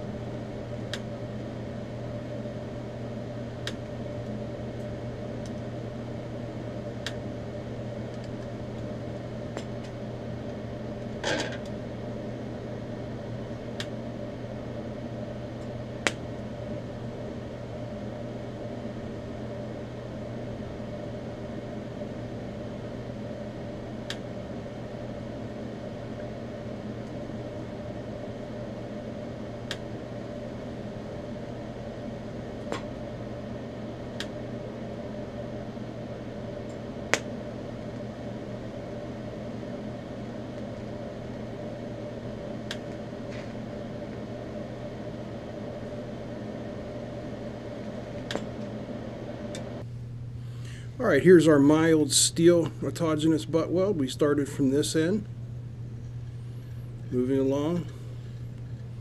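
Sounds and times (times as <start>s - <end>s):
welder humming: 0.0s - 59.0s.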